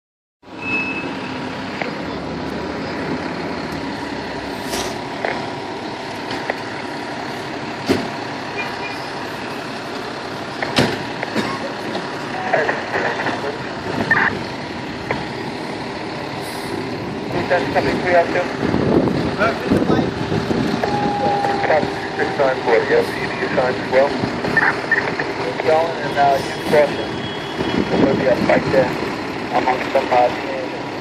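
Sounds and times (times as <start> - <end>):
fire engine diesel engine running: 0.4 - 31.0.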